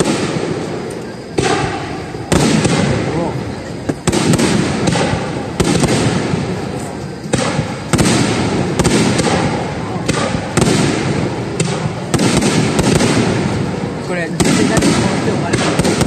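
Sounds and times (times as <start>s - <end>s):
firework shells bursting: 0.0s - 16.0s
low rumble of echoing booms: 0.0s - 16.0s.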